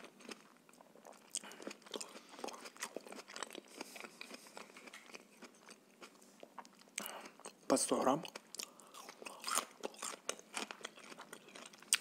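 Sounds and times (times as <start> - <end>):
crunchy food chewing: 0.0 - 7.6, 8.2 - 12.0.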